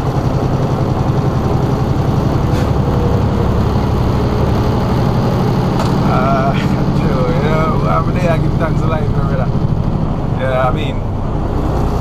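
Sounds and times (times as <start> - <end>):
diesel truck engine droning: 0.0 - 12.0
road noise: 0.0 - 12.0.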